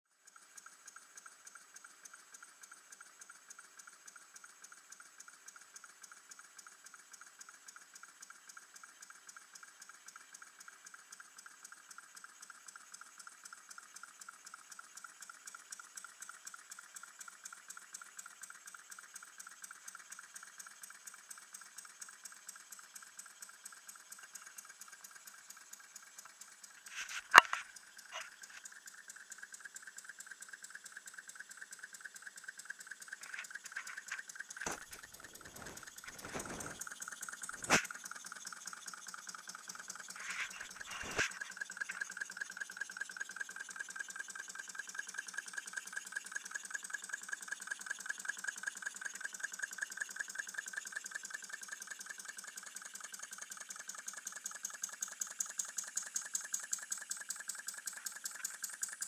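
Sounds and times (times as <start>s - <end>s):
model engine ticking: 0.1s - 59.0s.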